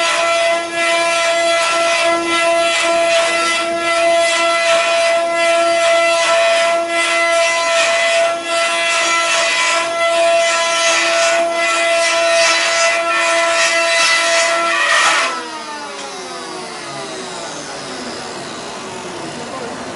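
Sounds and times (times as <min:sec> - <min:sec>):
cutters grinding into wood: 0:00.0 - 0:19.9
machine spindles whining: 0:00.0 - 0:19.9.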